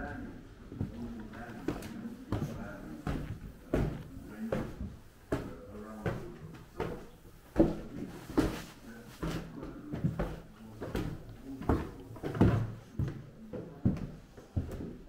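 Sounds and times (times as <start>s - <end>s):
footsteps with room echo: 0.0s - 15.0s.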